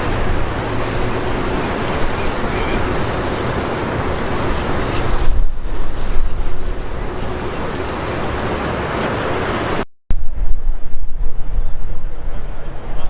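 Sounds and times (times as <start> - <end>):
boat engine running: 0.0 - 13.0
surf crashing: 0.0 - 13.0
wind buffeting microphone: 0.0 - 13.0.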